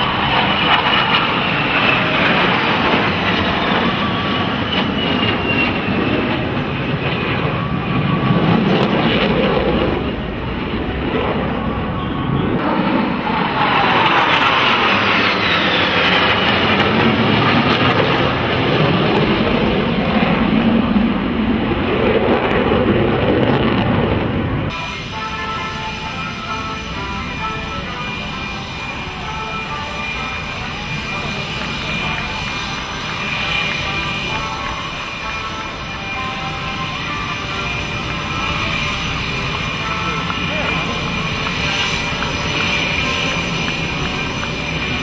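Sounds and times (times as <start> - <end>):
jet engines roaring: 0.0 - 45.0
jets passing whine: 0.0 - 45.0.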